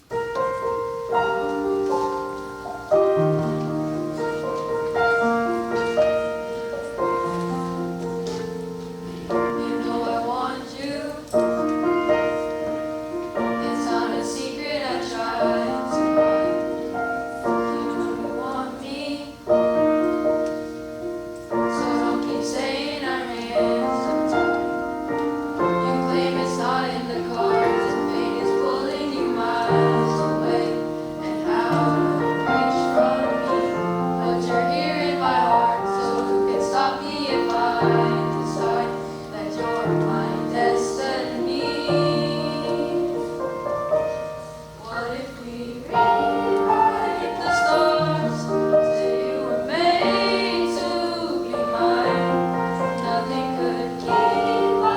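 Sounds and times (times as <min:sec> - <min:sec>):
children's choir singing: 0:00.0 - 0:54.9
piano accompaniment: 0:00.0 - 0:54.9.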